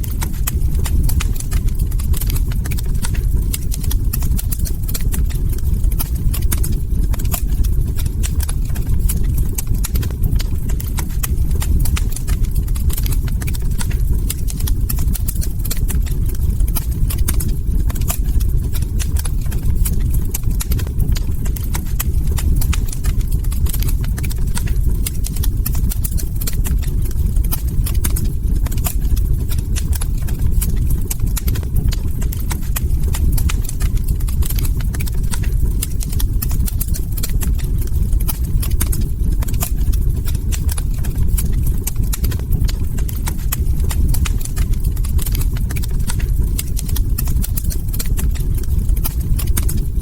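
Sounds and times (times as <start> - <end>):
log fire crackling: 0.0 - 50.0.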